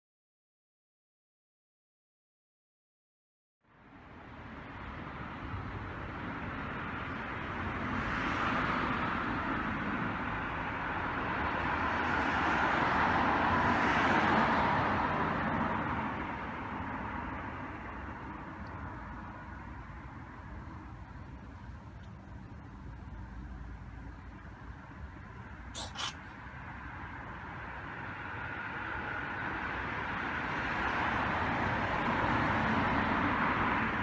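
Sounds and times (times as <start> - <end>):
road traffic rush: 3.6 - 34.0.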